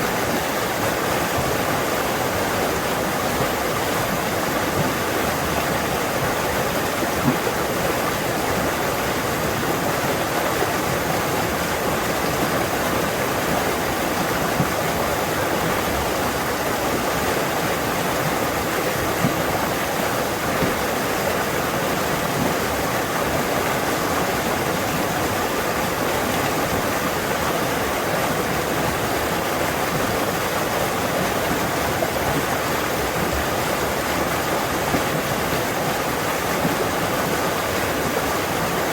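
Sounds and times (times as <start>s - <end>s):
stream rushing over stones: 0.0s - 38.9s
small water splashes: 0.1s - 38.9s.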